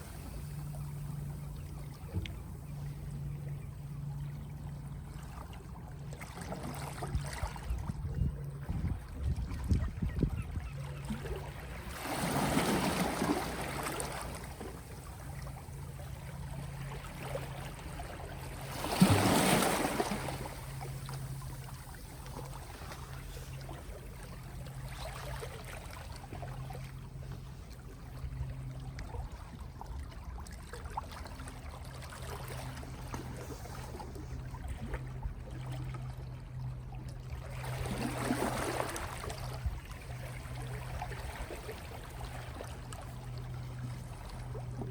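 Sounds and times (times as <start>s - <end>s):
gentle sea waves washing: 0.0s - 10.1s, 10.7s - 44.9s
steady low hum: 0.0s - 44.9s.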